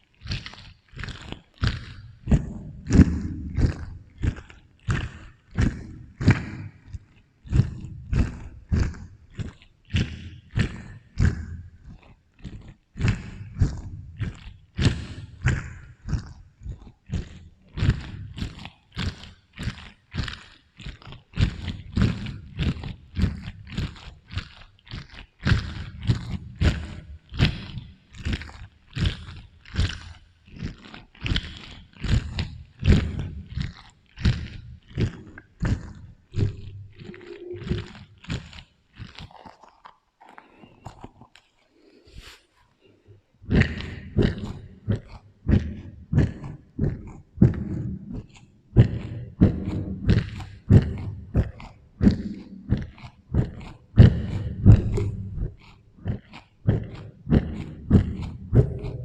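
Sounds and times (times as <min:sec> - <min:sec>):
fruit crunching being chewed: 0:00.0 - 0:59.0.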